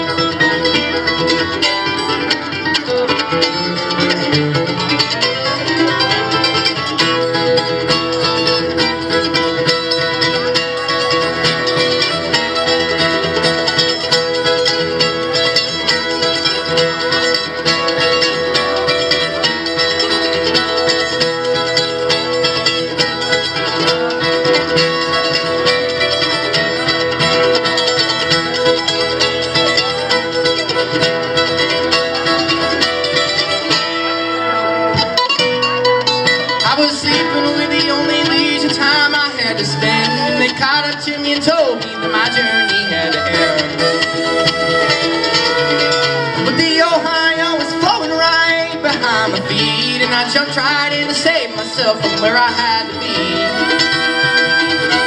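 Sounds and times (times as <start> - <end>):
acoustic string band playing: 0.0 - 55.0.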